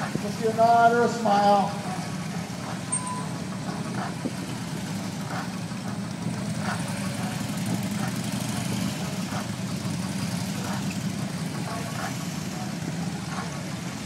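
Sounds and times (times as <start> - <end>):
motorcycle engines droning: 0.0 - 14.0.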